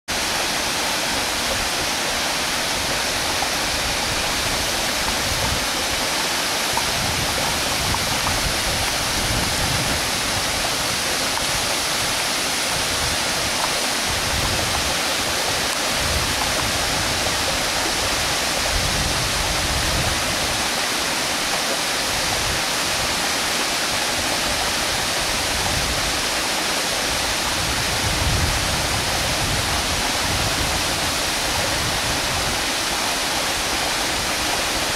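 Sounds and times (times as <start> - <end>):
waterfall rushing over rocks: 0.1 - 34.9.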